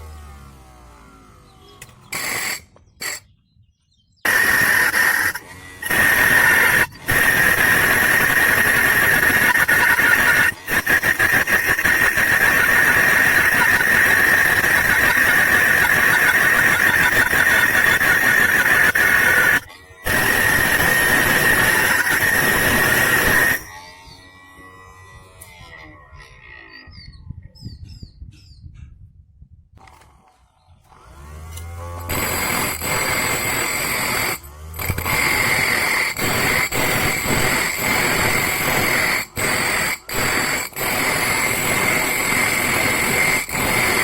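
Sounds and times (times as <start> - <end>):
angle grinder squealing: 1.6 - 3.3, 4.2 - 27.2, 31.5 - 44.0.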